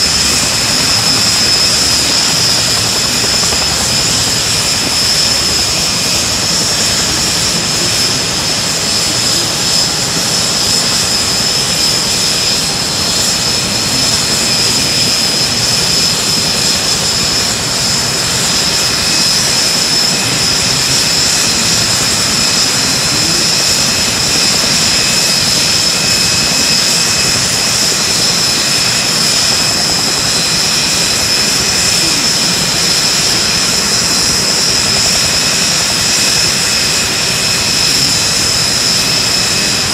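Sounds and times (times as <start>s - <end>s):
aircraft turbine engine whine: 0.0s - 39.9s.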